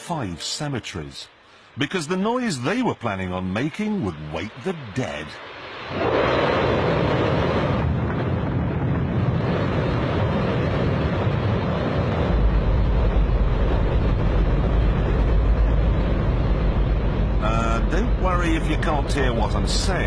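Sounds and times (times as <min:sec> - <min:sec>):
rocket engine roaring: 0:01.7 - 0:20.0
deep rumble: 0:03.8 - 0:20.0.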